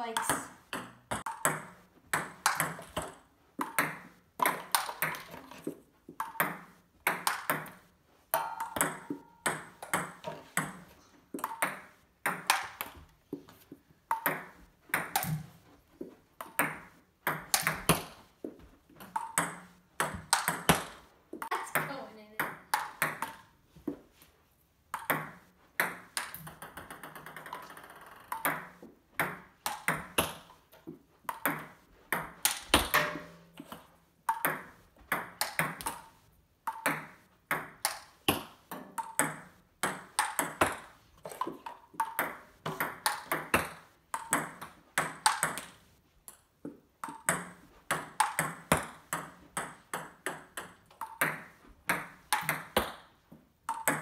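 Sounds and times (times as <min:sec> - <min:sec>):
ping-pong ball clicking off paddles: 0:00.0 - 0:13.4, 0:14.1 - 0:15.6, 0:16.4 - 0:18.2, 0:19.0 - 0:23.5, 0:24.9 - 0:54.0.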